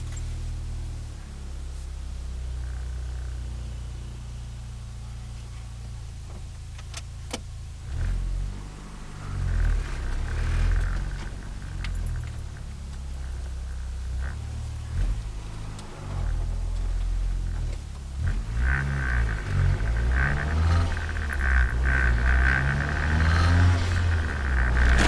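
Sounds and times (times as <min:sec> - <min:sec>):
car engine drone: 0:00.0 - 0:25.0.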